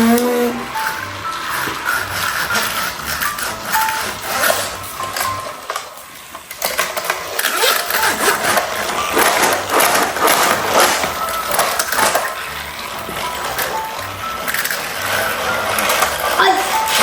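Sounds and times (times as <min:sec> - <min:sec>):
plastic toy trains clattering: 0:00.0 - 0:17.0.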